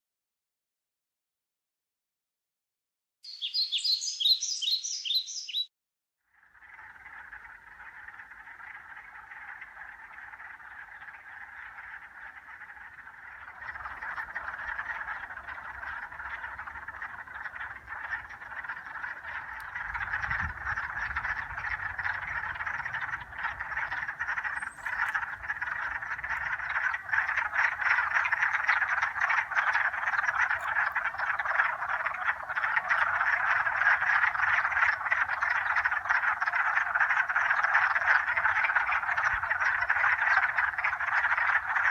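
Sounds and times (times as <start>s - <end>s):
frogs calling: 3.3s - 5.7s, 6.3s - 41.9s.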